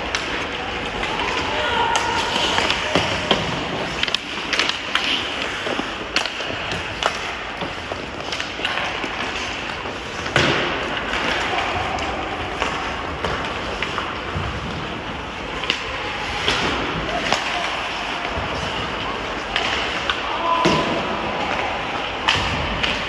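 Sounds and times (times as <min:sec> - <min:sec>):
skates scraping ice: 0:00.0 - 0:23.0
sticks clacking on puck: 0:00.0 - 0:23.0.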